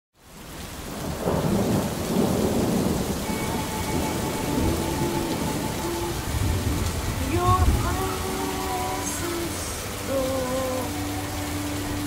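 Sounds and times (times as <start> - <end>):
rain hissing: 0.2 - 12.0
thunder rumbling: 0.8 - 10.8.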